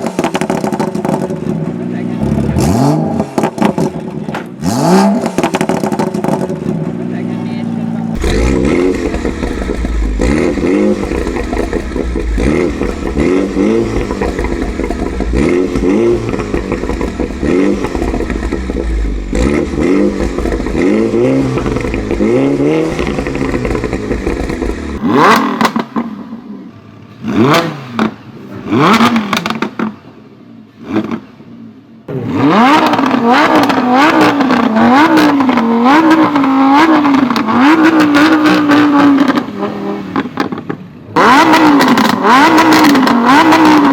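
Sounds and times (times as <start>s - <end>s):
exhaust crackling and popping: 0.0s - 7.1s, 8.2s - 26.1s, 32.7s - 43.9s
car engines revving: 0.0s - 43.9s.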